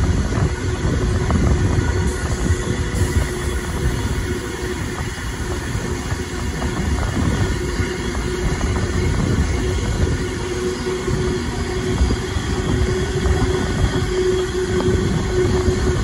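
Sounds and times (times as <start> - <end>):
rail joint clicks: 0.0 - 16.0
train wheels rumbling on rails: 0.0 - 16.0.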